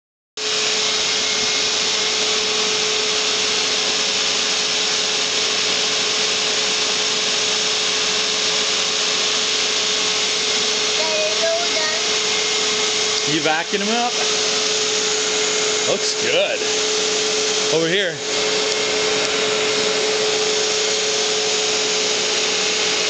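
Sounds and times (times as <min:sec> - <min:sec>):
vacuum cleaner rushing hiss: 0:00.4 - 0:23.0
vacuum motor hum: 0:00.4 - 0:23.0.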